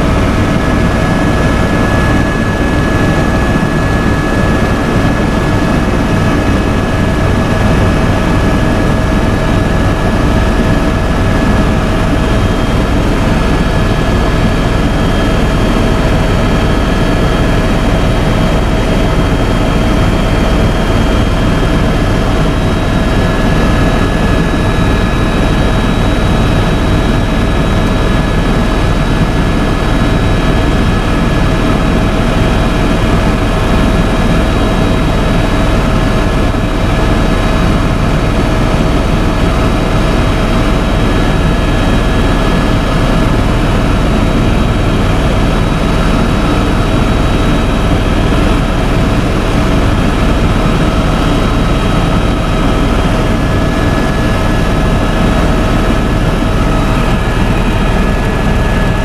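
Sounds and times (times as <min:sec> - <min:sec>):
helicopter cabin drone: 0:00.0 - 0:59.0.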